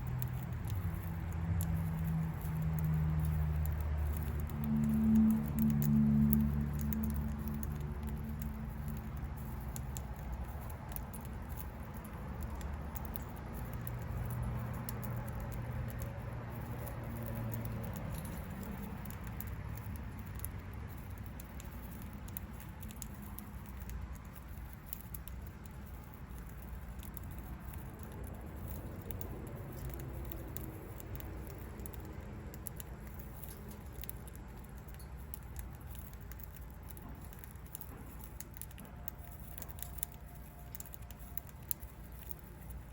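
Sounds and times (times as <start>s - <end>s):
bird pecking and husking seeds: 0.0s - 42.9s.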